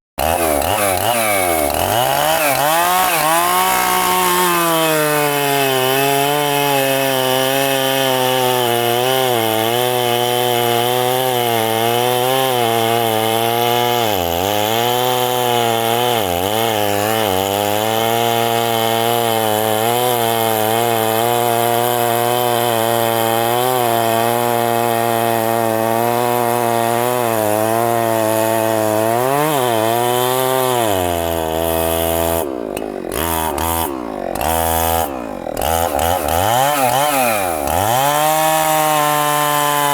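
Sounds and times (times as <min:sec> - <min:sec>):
chainsaw cutting a trunk: 0:00.2 - 0:39.9.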